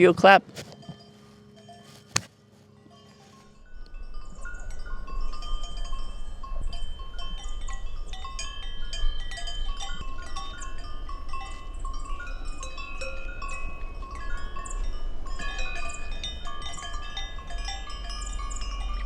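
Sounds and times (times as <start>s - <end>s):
cowbells clanking: 0.0s - 19.0s.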